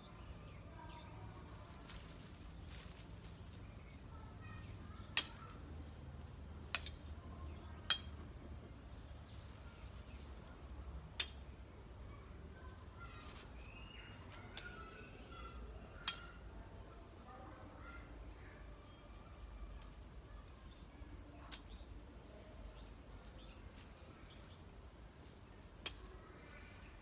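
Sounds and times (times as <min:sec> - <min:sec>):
low steady background hum: 0:00.0 - 0:27.0.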